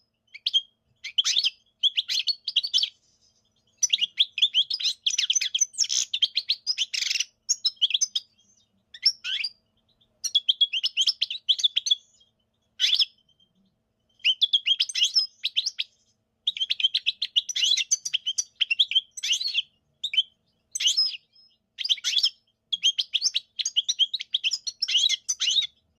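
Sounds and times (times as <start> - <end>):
finch twittering and trilling: 0.3 - 26.0.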